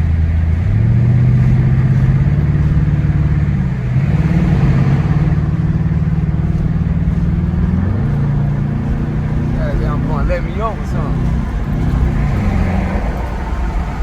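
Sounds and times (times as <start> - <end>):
car engine running: 0.0 - 14.0
road noise: 0.0 - 14.0.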